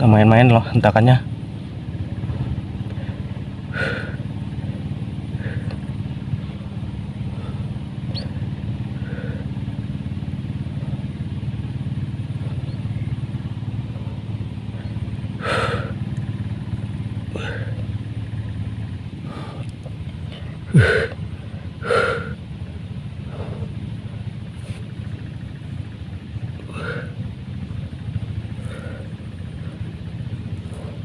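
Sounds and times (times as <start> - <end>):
hand tractor engine droning: 0.0 - 31.0.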